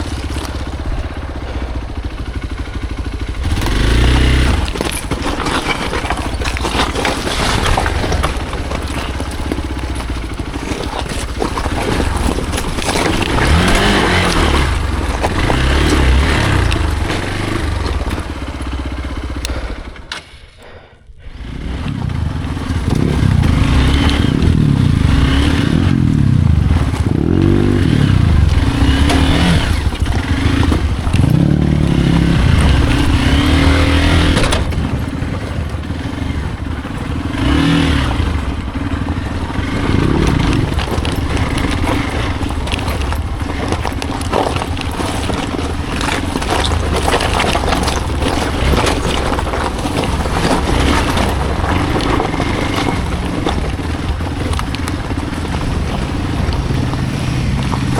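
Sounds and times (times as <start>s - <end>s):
scraping and clattering: 0.0s - 20.3s, 22.1s - 57.9s
motorcycle engine revving: 0.0s - 57.9s.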